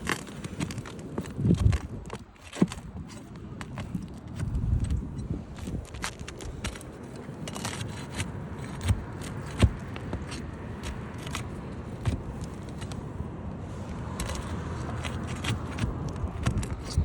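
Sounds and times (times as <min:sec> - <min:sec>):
roof shingles scraping and crackling: 0:00.0 - 0:17.0.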